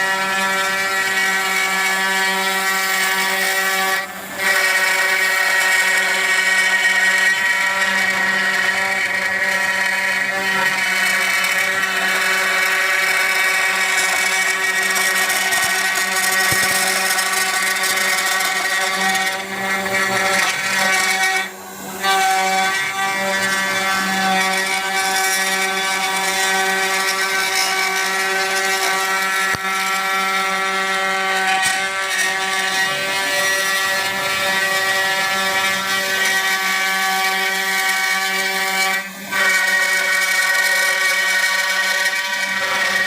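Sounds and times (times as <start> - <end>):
router spindle whine: 0.0 - 43.0.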